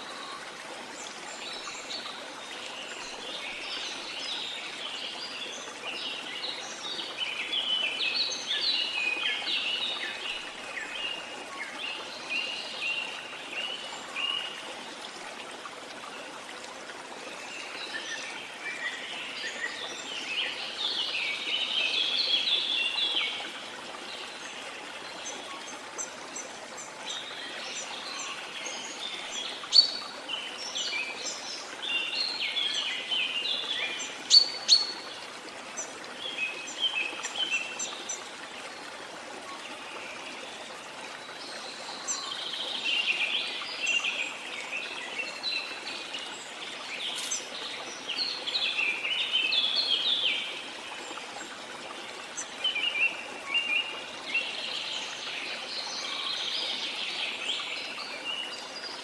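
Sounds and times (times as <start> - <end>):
rush of falling water: 0.0 - 59.0.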